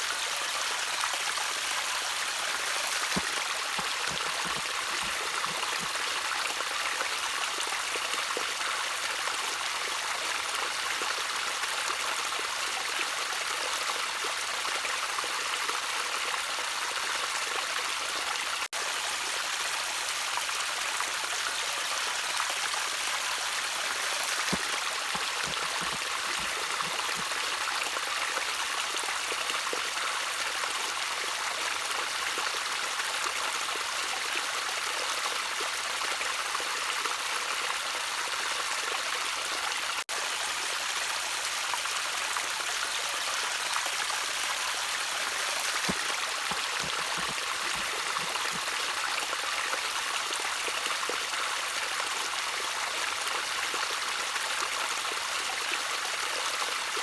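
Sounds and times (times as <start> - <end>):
stream water trickling: 0.0 - 57.0.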